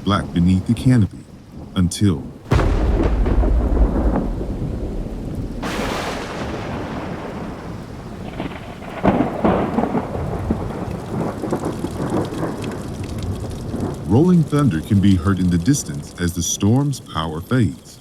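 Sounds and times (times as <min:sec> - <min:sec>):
thunder rumbling: 0:00.0 - 0:17.8
heavy rain: 0:00.0 - 0:18.0.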